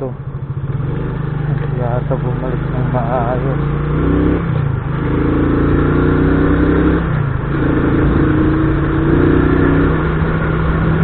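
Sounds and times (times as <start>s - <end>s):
small motorcycle engine running: 0.4s - 11.0s.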